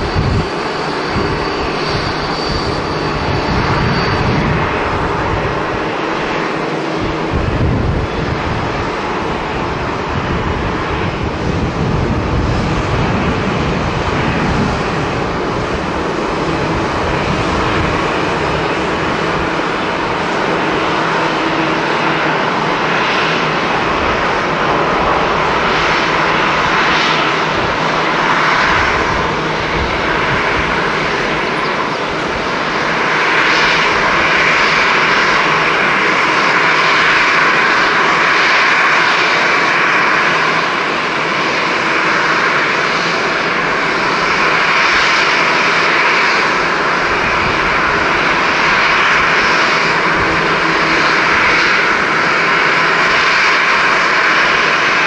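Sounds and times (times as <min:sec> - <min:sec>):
jet airliner engines running: 0:00.0 - 0:55.0.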